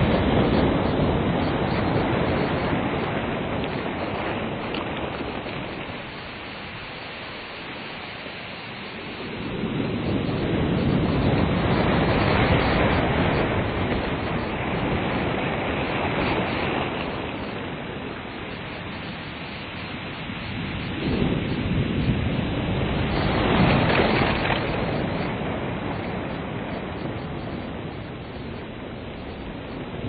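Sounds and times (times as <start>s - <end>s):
ocean waves breaking on beach: 0.0s - 30.0s.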